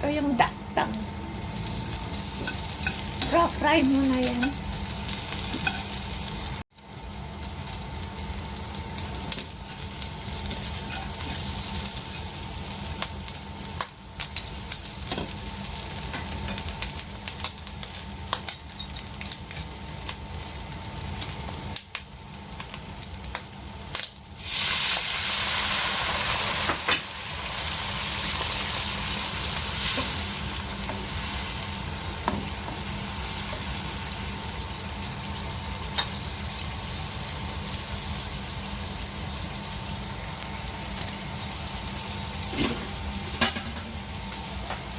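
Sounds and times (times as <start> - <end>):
food sizzling in a pan: 0.0 - 44.9.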